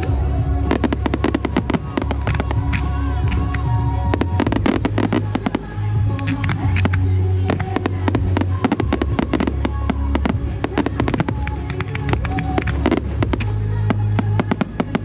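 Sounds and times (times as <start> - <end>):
fireworks bangs and crackles: 0.0 - 15.0
pop song with bass line: 0.0 - 15.0.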